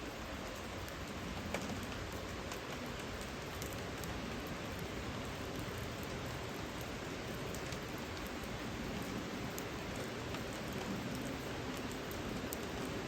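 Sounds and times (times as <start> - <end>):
raindrops ticking on surfaces: 0.0 - 13.0
steady rain: 0.0 - 13.0.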